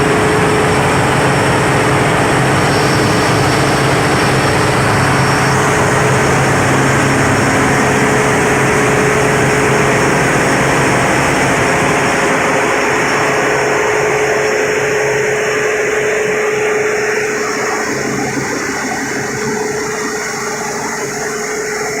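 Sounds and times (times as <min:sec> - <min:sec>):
diesel generator running: 0:00.0 - 0:22.0
steady whine: 0:00.0 - 0:22.0.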